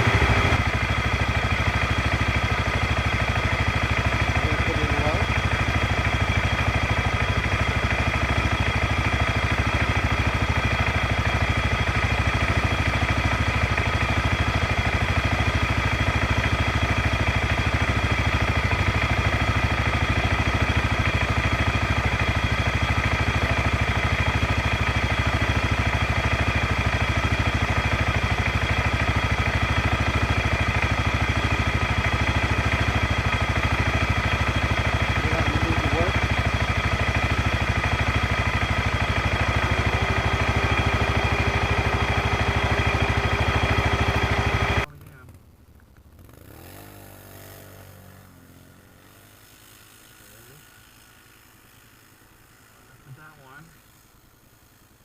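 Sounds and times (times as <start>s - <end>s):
atv engine idling: 0.0s - 55.0s.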